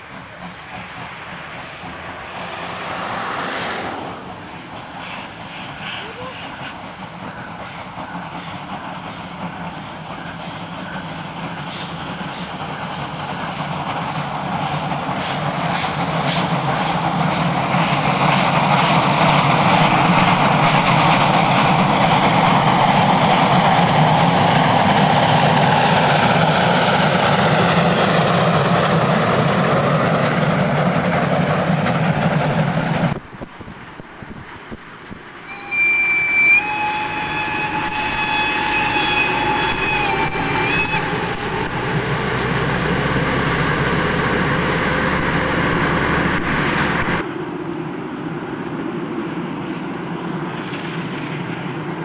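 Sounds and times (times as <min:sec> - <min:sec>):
steam locomotive exhaust: 0:00.0 - 0:33.5, 0:35.4 - 0:47.3
train wheels rolling on rails: 0:00.0 - 0:52.0.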